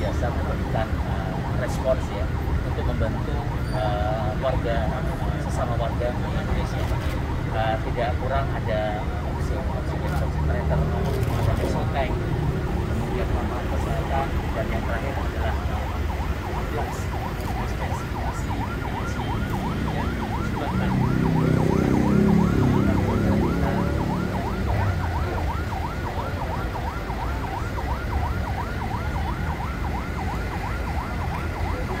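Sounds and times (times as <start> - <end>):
ambulance siren yelping: 0.0 - 32.0.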